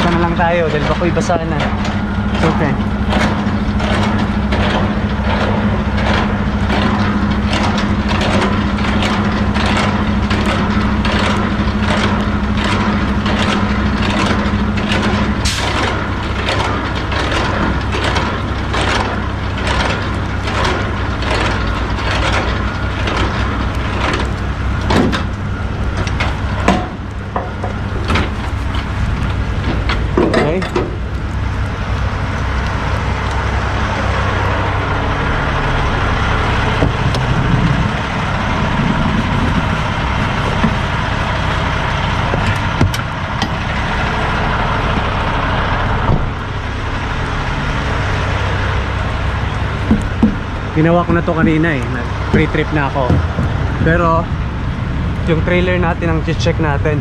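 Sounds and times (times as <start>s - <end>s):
sharp clicks and knocks: 0.0s - 34.8s, 36.1s - 47.1s, 47.8s - 54.4s
diesel engine idling: 0.0s - 57.0s.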